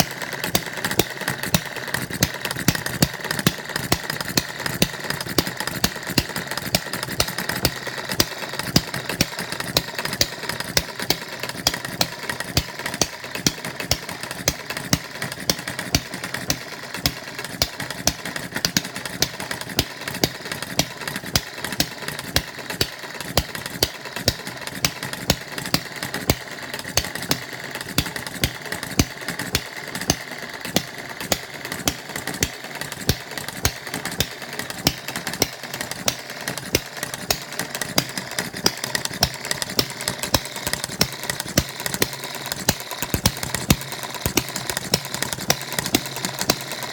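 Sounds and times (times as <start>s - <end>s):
model engine firing pops: 0.0s - 46.9s.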